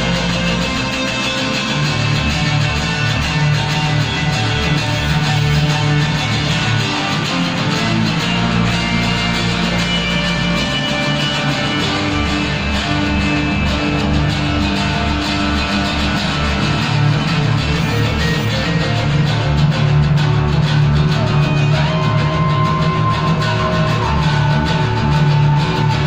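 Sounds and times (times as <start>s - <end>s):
guitar: 0.0s - 26.0s
pulsing bass line: 0.0s - 26.0s.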